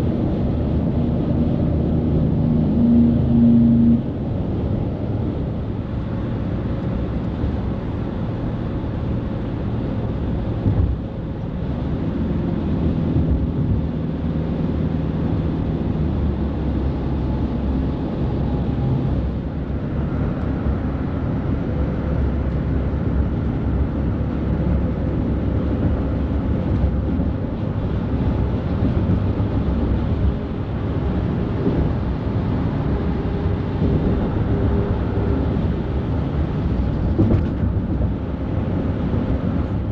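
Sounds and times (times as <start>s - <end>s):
highway traffic rumble: 0.0s - 39.9s
truck engine hum: 0.0s - 39.9s.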